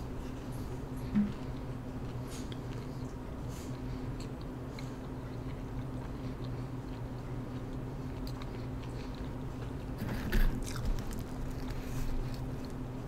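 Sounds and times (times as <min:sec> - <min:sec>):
low steady hum: 0:00.0 - 0:13.0
chewing pizza: 0:00.2 - 0:13.0.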